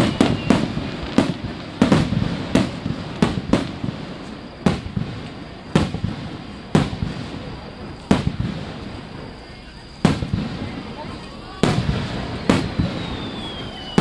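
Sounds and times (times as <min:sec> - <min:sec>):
firework shells bursting: 0:00.0 - 0:14.0.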